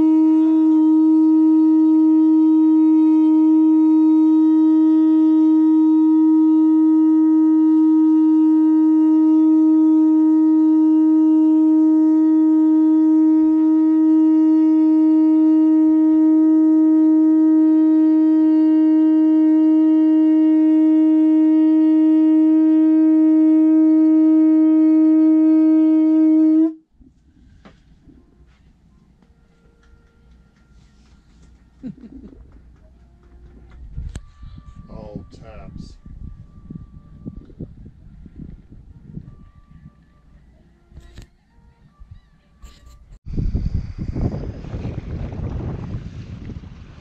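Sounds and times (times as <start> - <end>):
conch shell horn blowing: 0.0 - 43.2.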